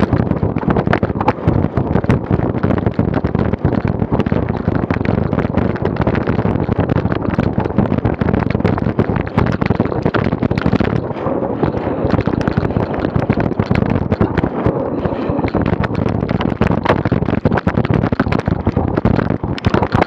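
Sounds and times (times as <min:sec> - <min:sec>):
bicycle rattling and knocking: 0:00.0 - 0:20.0
wind buffeting microphone: 0:00.0 - 0:20.0.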